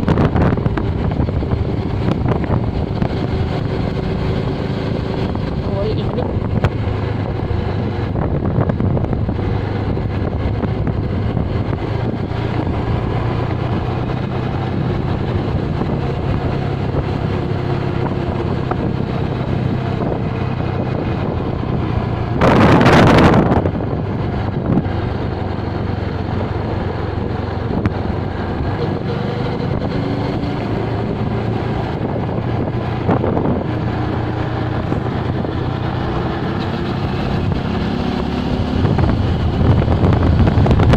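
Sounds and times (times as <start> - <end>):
loud rush of noise: 0.0 - 40.9
motorcycle engine running: 0.0 - 40.9
wind buffeting microphone: 0.0 - 40.9.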